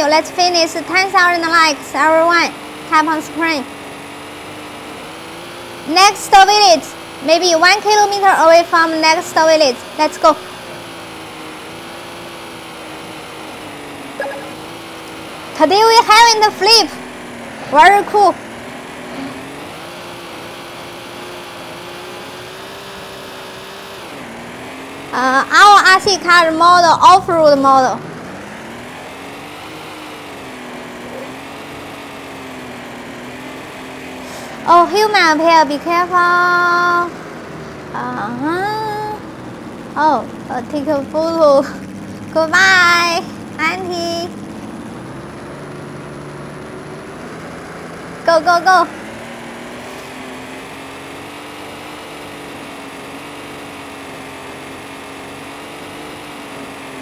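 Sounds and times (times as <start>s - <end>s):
electric motor whining: 0.0s - 57.0s
tyre road noise: 0.0s - 57.0s.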